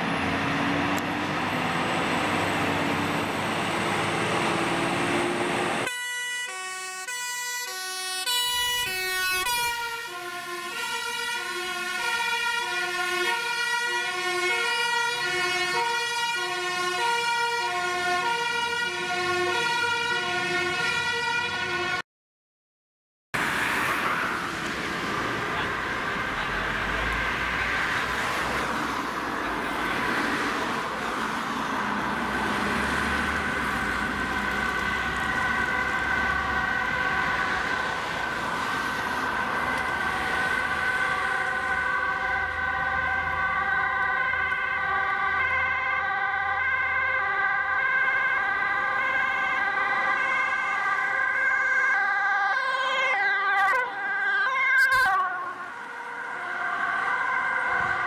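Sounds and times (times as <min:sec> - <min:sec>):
road traffic noise: 0:00.0 - 0:22.0, 0:23.4 - 0:58.0
two-tone ambulance siren: 0:01.7 - 0:22.0, 0:25.4 - 0:58.0.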